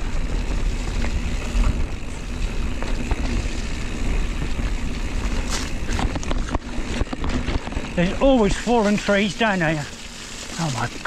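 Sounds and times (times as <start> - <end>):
bike knocking and rattling: 0.0 - 11.0
wind and ride noise: 0.0 - 11.0.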